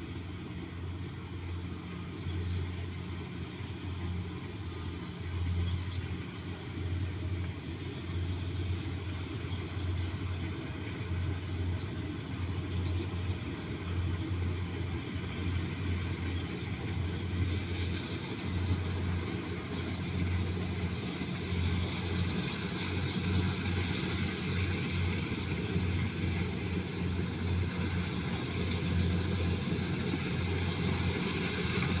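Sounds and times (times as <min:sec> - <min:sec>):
low pulsing drone: 0:00.0 - 0:32.0.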